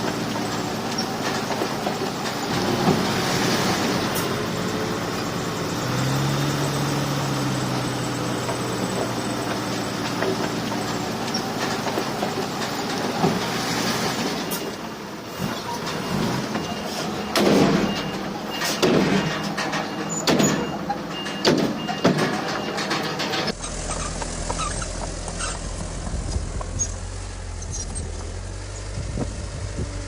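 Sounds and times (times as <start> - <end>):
diesel earthmoving machinery: 0.0 - 30.0.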